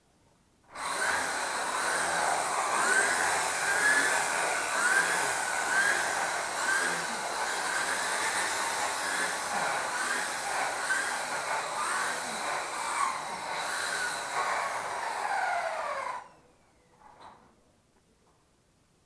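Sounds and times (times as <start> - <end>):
electric drill boring into wall: 0.7 - 16.4.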